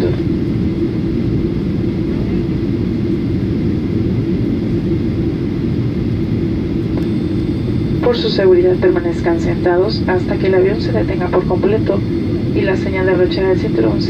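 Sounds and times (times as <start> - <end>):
airliner cabin rumble and hum: 0.0 - 14.0.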